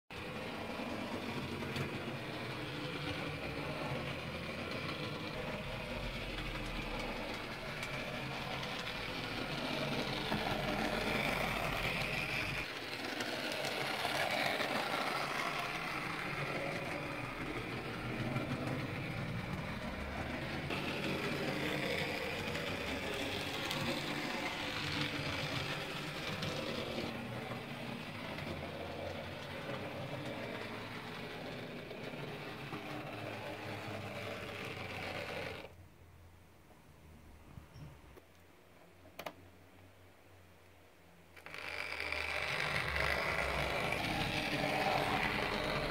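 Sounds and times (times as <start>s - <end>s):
small electric motor whirring: 0.3s - 35.7s, 41.4s - 45.9s.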